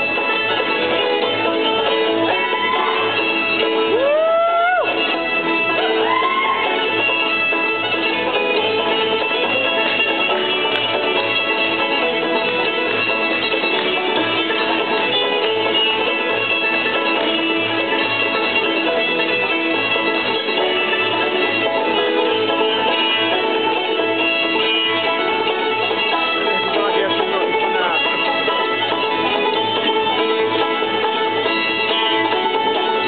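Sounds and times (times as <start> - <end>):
banjo: 0.0 - 33.0
fiddle: 0.0 - 33.0
guitar: 0.0 - 33.0.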